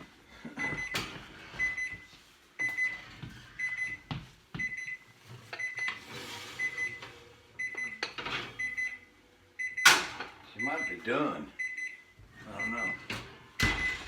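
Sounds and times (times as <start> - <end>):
oven timer beeping: 0.6 - 14.0.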